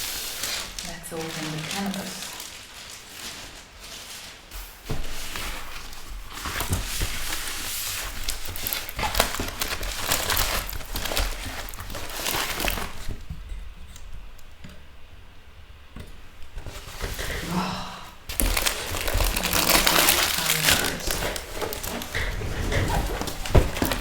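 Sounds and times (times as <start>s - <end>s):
packaging crinkling and rustling: 0.0s - 13.6s, 16.5s - 17.6s, 18.3s - 24.0s.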